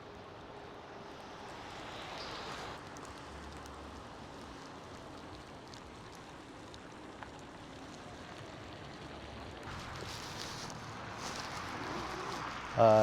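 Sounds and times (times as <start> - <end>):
snow pattering with steady hiss: 0.0 - 13.0.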